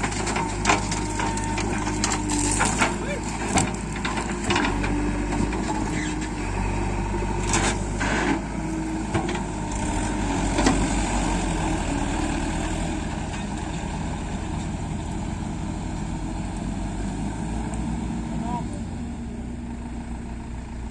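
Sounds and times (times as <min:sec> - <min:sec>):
heavy diesel engine running: 0:00.0 - 0:20.9.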